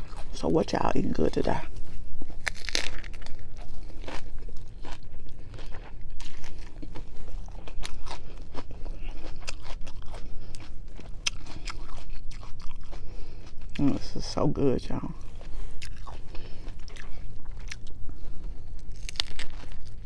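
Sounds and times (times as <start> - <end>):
crisp lettuce crunching: 0.0 - 20.0.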